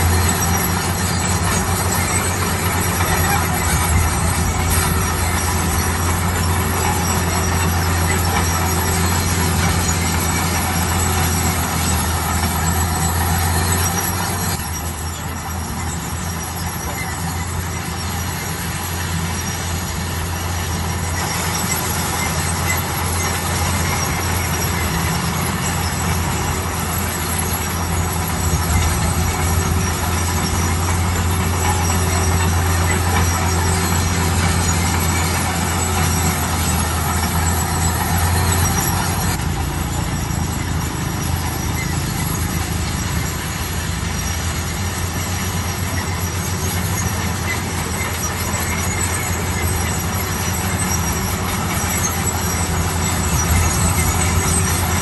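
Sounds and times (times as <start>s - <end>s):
bulldozer engine drone: 0.0s - 55.0s.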